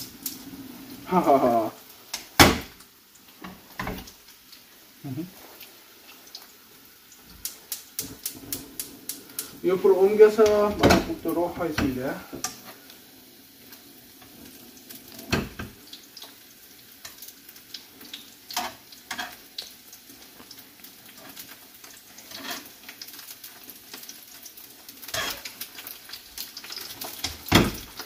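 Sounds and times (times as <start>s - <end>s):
eggs sizzling in oil: 0.0s - 28.0s.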